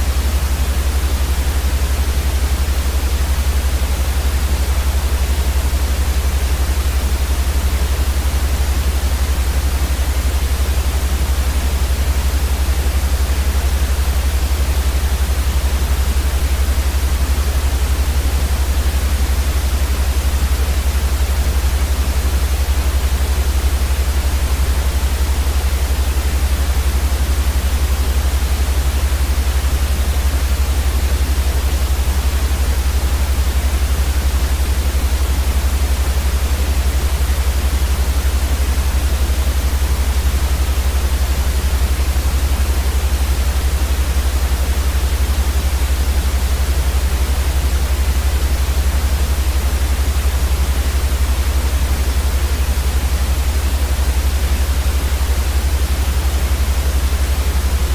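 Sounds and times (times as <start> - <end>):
white noise with low rumble: 0.0 - 57.9.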